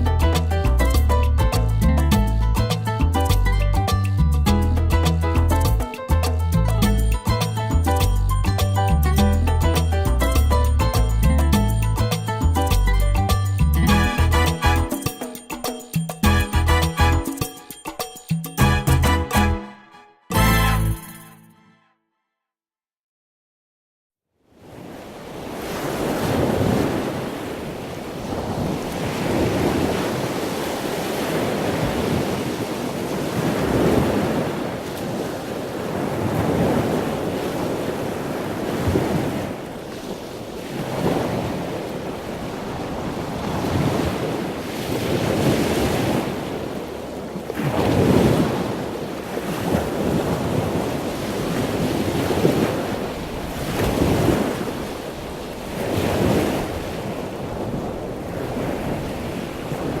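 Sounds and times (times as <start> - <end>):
rushing sea water: 3.9 - 21.2, 24.5 - 60.0.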